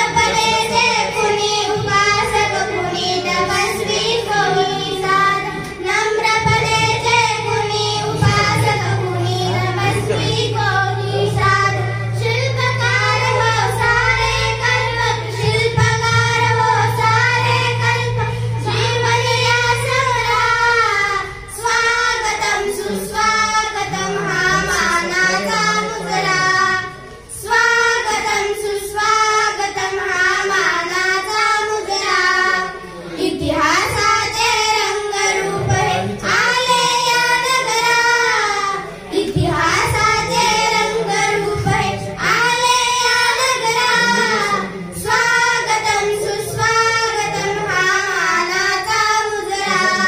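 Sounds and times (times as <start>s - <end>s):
girls singing into microphones: 0.0s - 50.0s
low steady hum: 0.0s - 50.0s.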